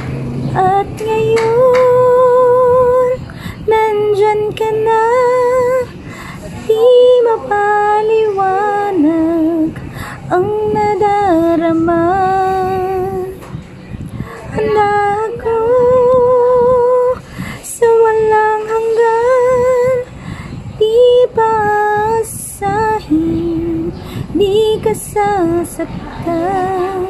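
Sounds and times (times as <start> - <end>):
low background rumble: 0.0 - 27.0
woman singing unaccompanied: 0.0 - 27.0.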